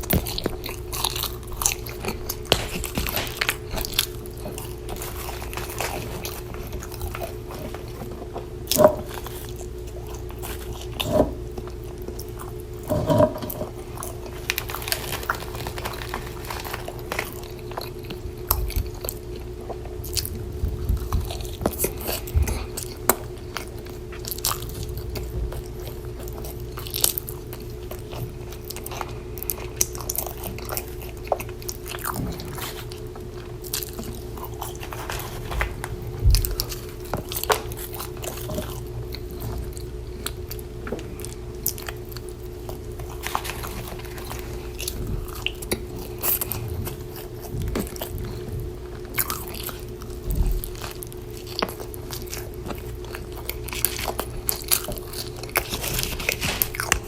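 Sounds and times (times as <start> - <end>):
person eating and chewing: 0.0 - 57.0
steady low hum: 0.0 - 57.0.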